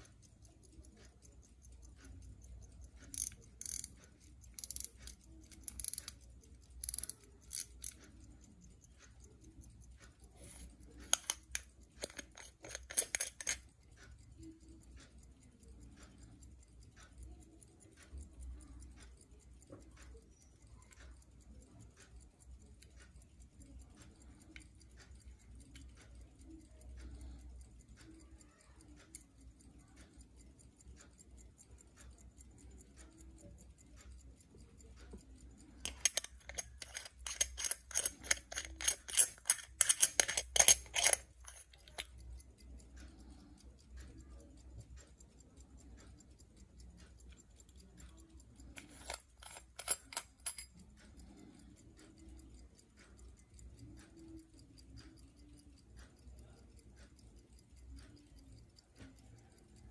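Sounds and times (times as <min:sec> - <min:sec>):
pocket watch ticking: 0:00.0 - 0:59.9
rapid metallic clicking of watch crown: 0:00.0 - 0:59.9.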